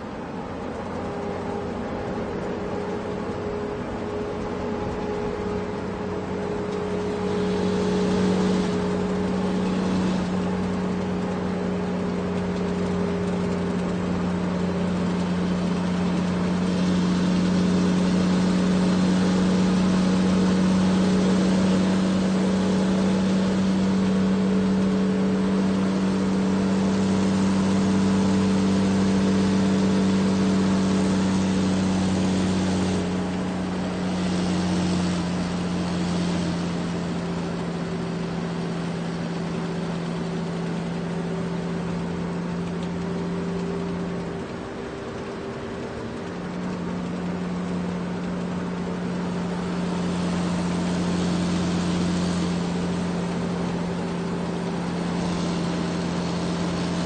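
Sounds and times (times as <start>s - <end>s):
road noise: 0.0s - 57.0s
truck engine running: 0.0s - 57.0s.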